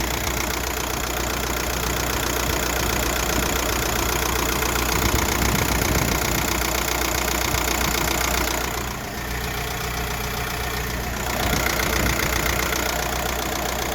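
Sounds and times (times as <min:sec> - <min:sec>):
diesel engine idling with ticking: 0:00.0 - 0:13.9.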